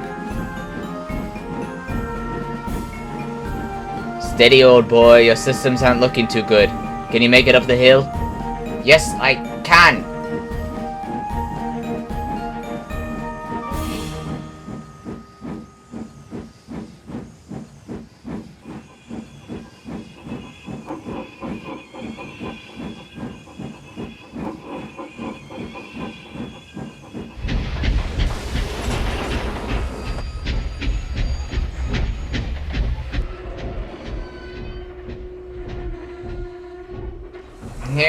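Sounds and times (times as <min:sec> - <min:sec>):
steam locomotive chuffing: 0:00.0 - 0:38.0.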